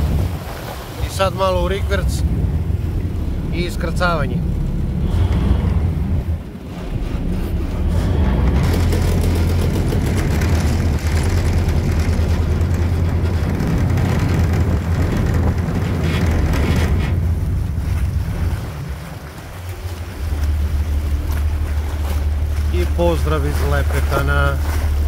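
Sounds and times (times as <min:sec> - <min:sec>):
propeller wash churning water: 0:00.0 - 0:25.0
ship diesel engine rumbling: 0:00.0 - 0:25.0.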